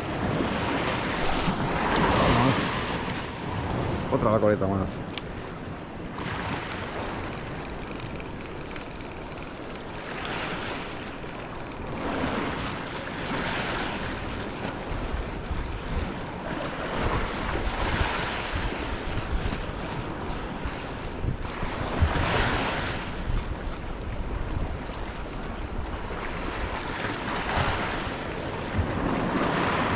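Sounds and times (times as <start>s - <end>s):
sea waves washing in: 0.0s - 23.7s, 24.4s - 29.9s
wind rumbling on microphone: 0.0s - 29.9s.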